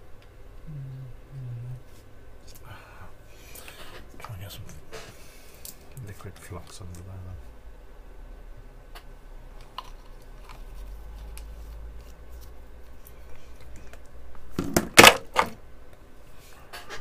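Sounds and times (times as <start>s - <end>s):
low hum: 0.0s - 14.5s.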